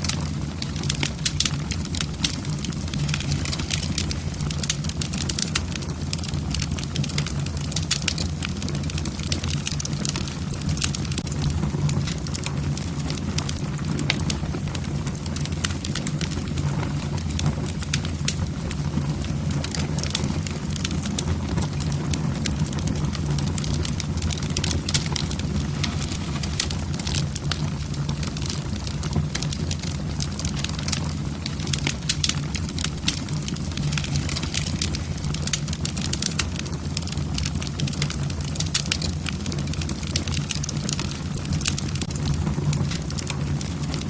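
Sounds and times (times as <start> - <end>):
logs crackling and snapping: 0.0 - 44.0
low rumble of fire: 0.0 - 44.0.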